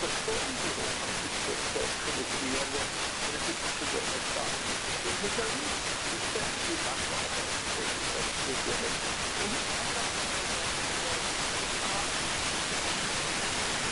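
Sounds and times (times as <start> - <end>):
faint radio voice: 0.0 - 13.2
radio receiver hiss: 0.0 - 13.9.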